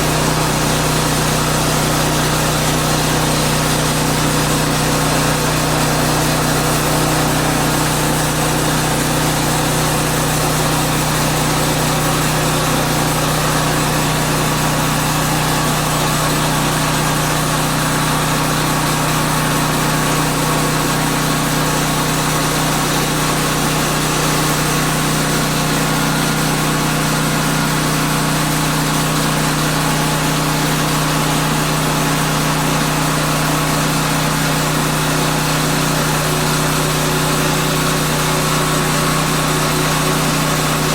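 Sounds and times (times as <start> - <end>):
gasoline engine running steadily: 0.0 - 40.9.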